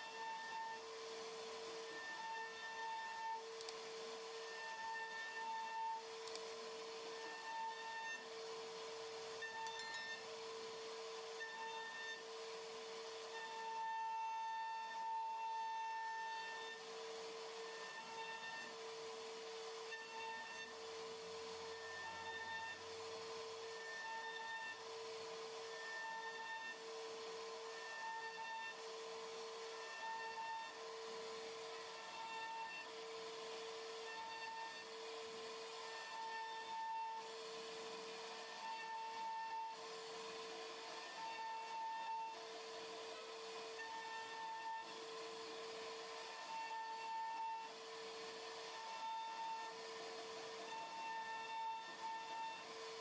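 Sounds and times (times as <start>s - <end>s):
router spindle whine: 0.0s - 53.0s.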